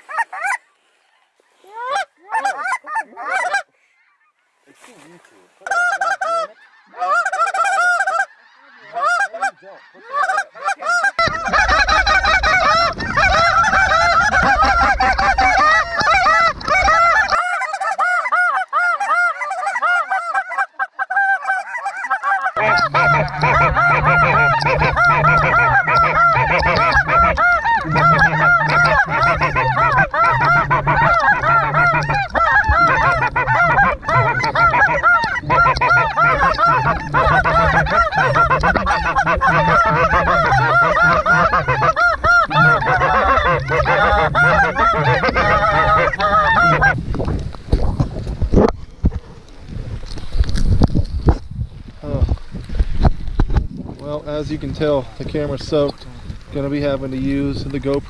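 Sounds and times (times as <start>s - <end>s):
geese honking: 0.0s - 47.1s, 54.0s - 58.0s.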